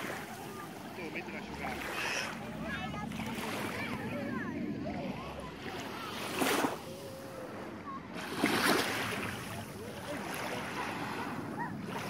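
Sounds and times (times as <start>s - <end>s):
faint distant voices: 0.0s - 12.0s
waves lapping on shore: 0.0s - 12.0s.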